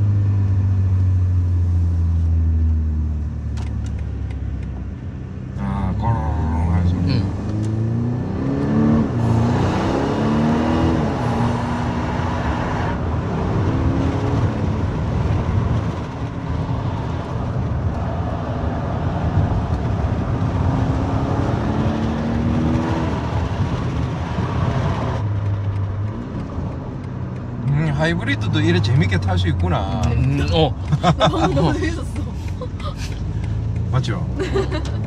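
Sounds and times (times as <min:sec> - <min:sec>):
road and wind noise: 0:00.0 - 0:35.0
car engine accelerating hard: 0:05.6 - 0:35.0.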